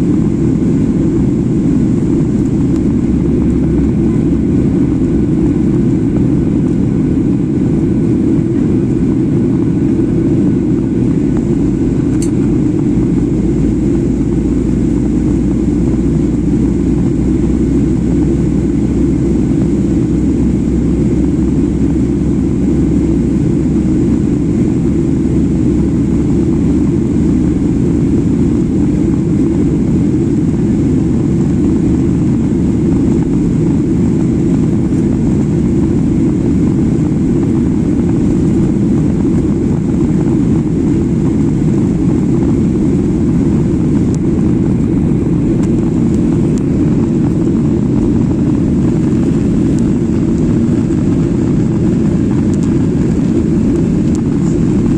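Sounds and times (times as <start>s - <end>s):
jet cabin engine rush: 0.0s - 54.9s.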